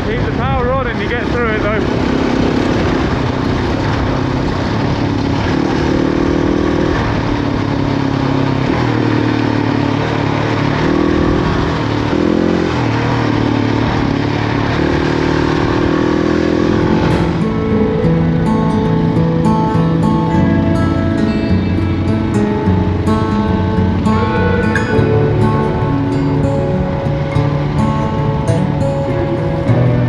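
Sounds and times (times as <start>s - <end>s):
motorcycle engine revving: 0.0s - 30.0s
steady rushing noise: 0.0s - 30.0s.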